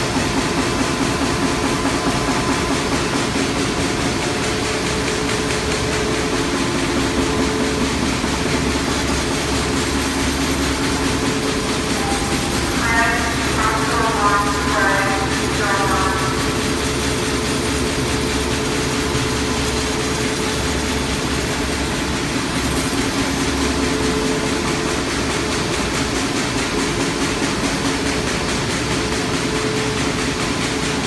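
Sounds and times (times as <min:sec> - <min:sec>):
printing press running: 0:00.0 - 0:31.0
steady machine hum: 0:00.0 - 0:31.0.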